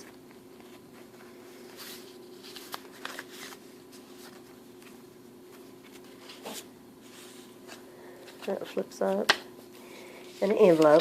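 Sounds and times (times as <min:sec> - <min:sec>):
paper and card rustling: 0:00.0 - 0:09.4, 0:10.3 - 0:11.0
faint steady hum: 0:00.0 - 0:11.0.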